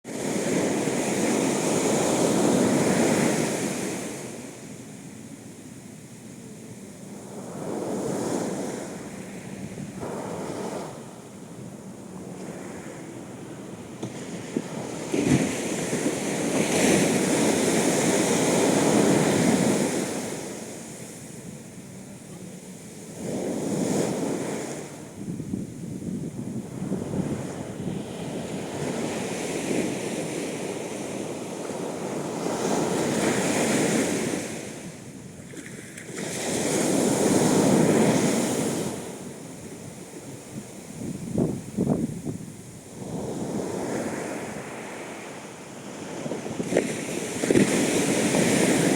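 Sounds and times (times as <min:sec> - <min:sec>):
ocean waves breaking: 0:00.1 - 0:48.9.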